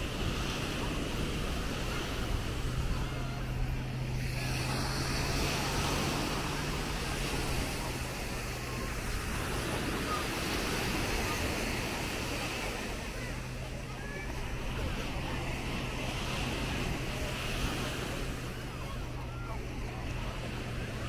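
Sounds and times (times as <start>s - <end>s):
waves washing onto beach: 0.0s - 21.0s.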